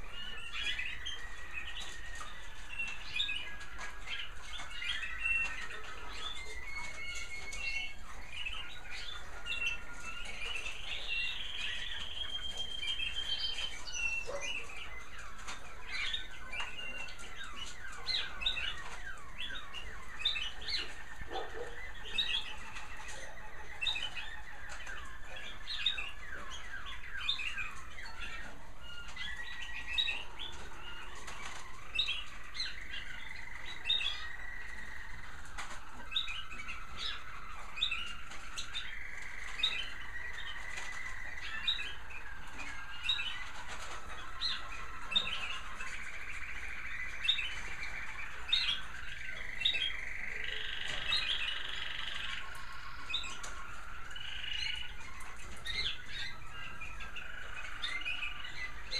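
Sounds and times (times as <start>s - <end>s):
canaries trilling: 0.0s - 58.9s.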